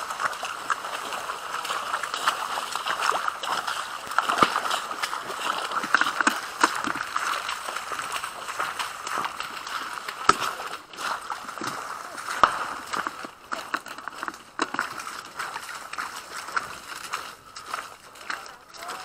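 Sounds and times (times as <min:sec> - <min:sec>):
footsteps splashing through wet grass: 0:00.0 - 0:19.0.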